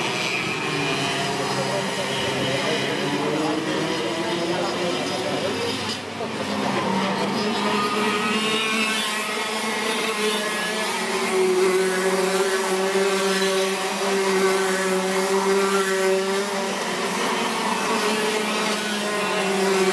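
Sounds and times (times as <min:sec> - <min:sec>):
kart engines whining: 0:00.0 - 0:19.9.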